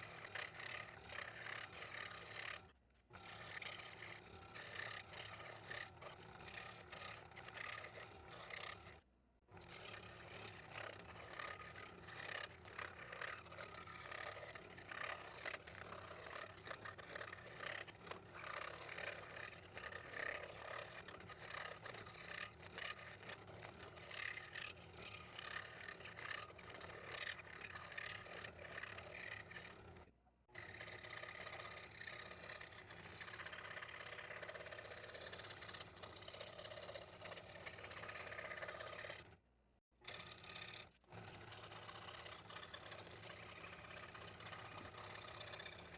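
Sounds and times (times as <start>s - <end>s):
scroll saw cutting plywood: 0.0s - 9.0s, 9.6s - 45.9s.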